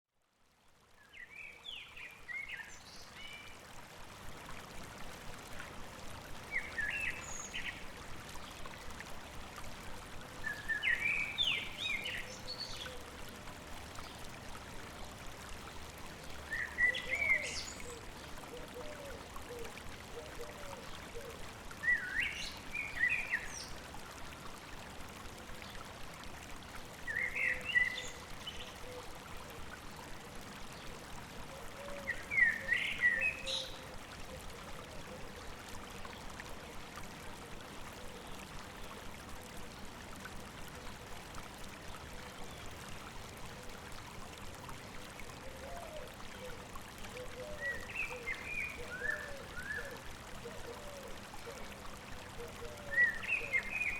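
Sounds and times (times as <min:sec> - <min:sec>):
stream babbling: 0:00.2 - 0:53.9.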